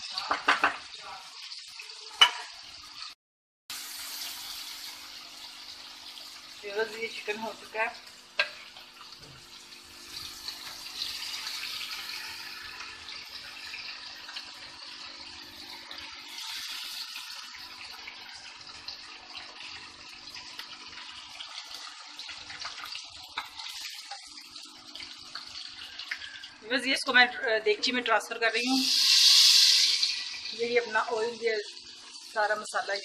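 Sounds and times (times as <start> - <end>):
chicken sizzling in hot oil: 0.0 - 33.0.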